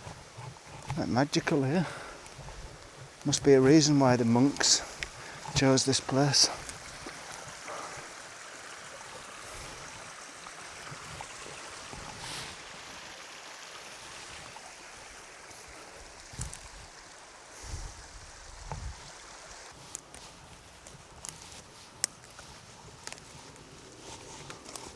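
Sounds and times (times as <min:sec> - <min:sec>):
stream rushing: 0:00.0 - 0:24.9.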